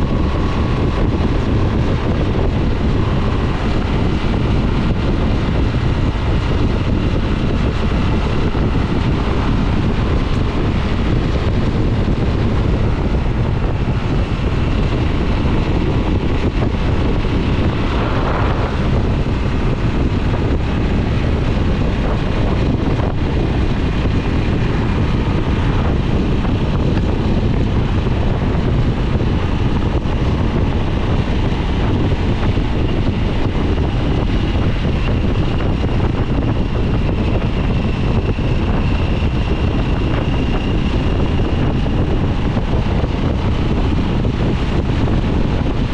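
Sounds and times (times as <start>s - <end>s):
motorcycle engine cruising: 0.0s - 45.9s
wind buffeting microphone: 0.0s - 45.9s.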